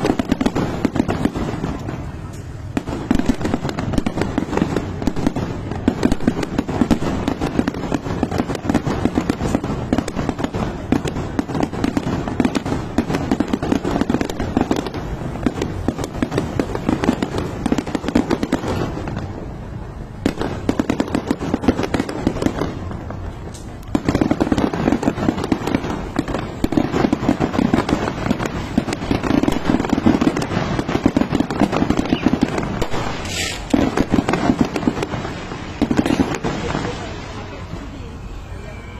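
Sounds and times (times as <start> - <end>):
fireworks popping and banging: 0.0 - 37.9.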